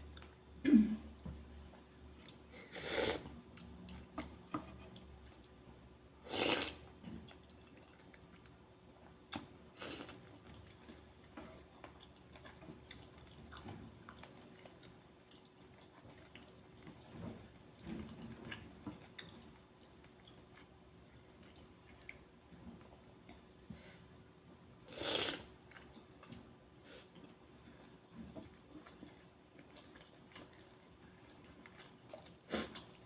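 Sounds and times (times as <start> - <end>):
soft chewing: 0.0 - 33.0.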